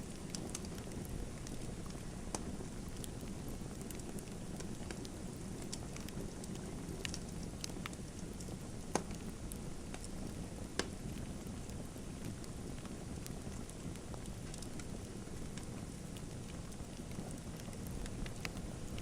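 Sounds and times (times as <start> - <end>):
fire crackling in fireplace: 0.0 - 19.0
sharp snaps and pops: 0.1 - 19.0.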